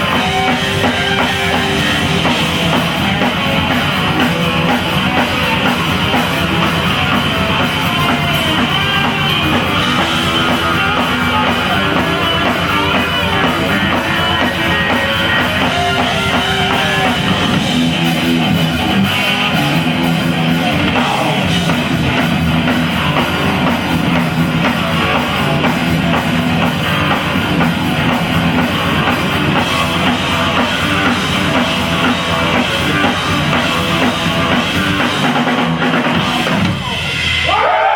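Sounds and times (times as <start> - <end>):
bass guitar: 0.0 - 37.9
distorted electric guitar: 0.0 - 37.9
drum kit: 0.0 - 37.9.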